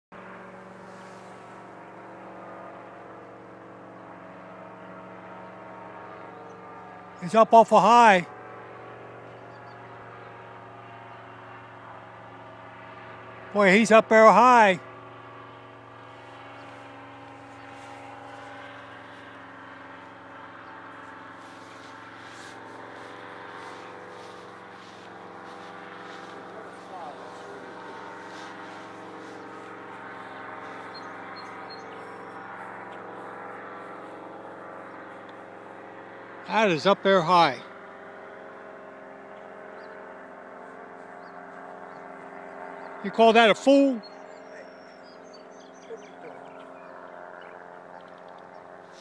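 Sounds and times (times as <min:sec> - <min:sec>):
paramotor engine droning: 0:00.1 - 0:49.0.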